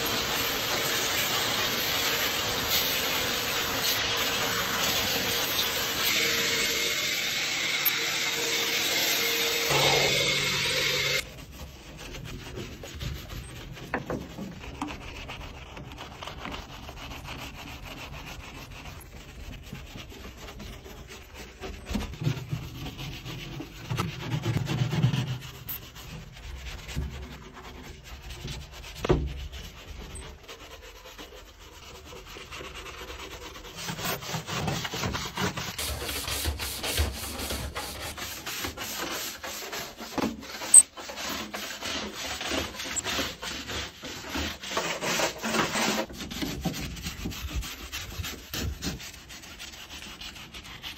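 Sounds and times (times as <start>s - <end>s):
hand brush scrubbing metal panel: 0.0s - 50.9s
push broom scrubbing floor: 0.0s - 50.9s.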